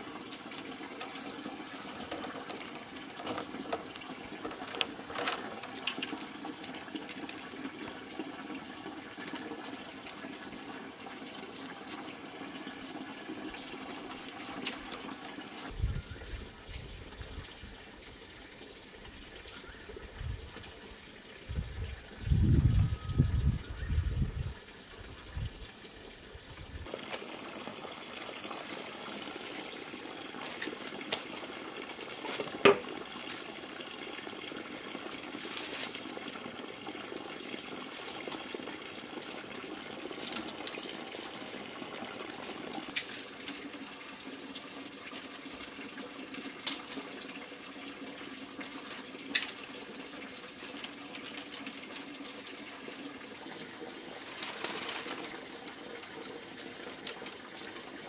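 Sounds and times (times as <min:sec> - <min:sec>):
water running: 0:00.0 - 0:23.6, 0:24.2 - 0:58.0.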